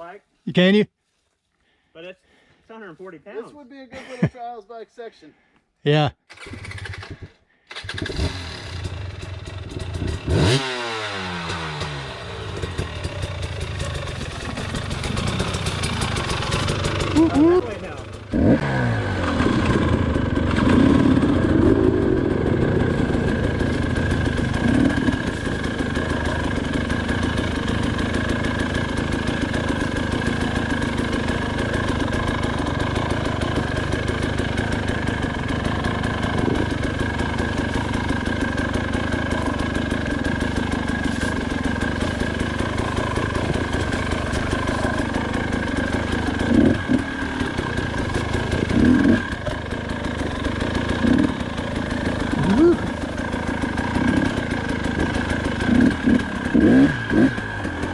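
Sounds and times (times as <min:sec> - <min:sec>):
two-stroke motorcycle engine running: 0:07.8 - 0:57.9
engine throttle blips: 0:10.3 - 0:57.9.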